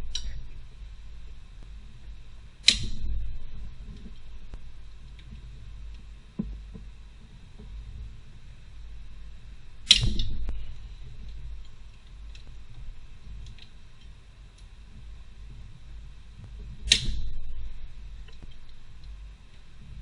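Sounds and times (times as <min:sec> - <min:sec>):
faint clicks: 0:00.0 - 0:20.0
low steady hum: 0:00.0 - 0:20.0.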